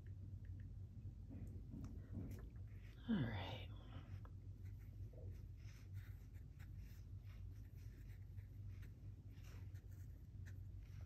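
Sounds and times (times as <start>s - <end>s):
low steady hum: 0.0s - 11.0s
brush dabbing on paper: 2.0s - 11.0s.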